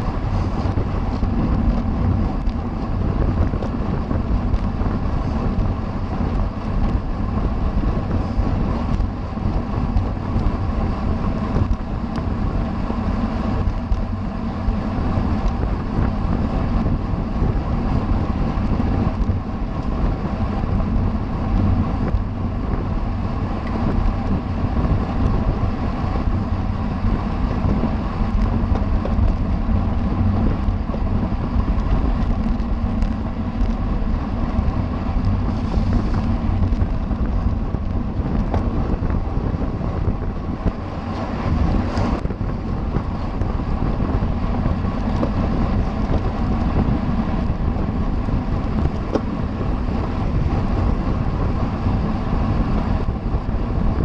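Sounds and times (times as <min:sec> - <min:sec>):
constant low rumble: 0:00.0 - 0:54.0
wind rushing over microphone: 0:00.0 - 0:54.0.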